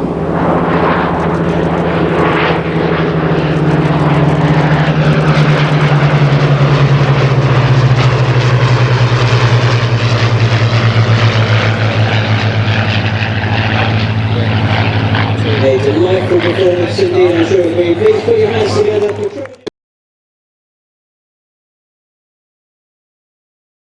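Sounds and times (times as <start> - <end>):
propeller aircraft engines droning: 0.0 - 19.7.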